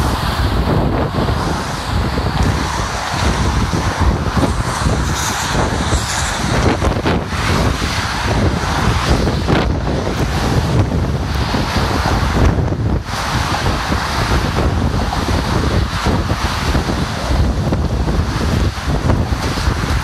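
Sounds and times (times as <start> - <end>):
road traffic passing: 0.0 - 20.0
wind buffeting microphone: 0.0 - 20.0.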